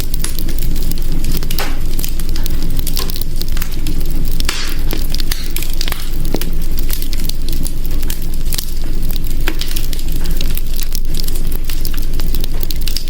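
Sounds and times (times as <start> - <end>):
fire crackling and popping: 0.0 - 13.0
low rumble: 0.0 - 13.0.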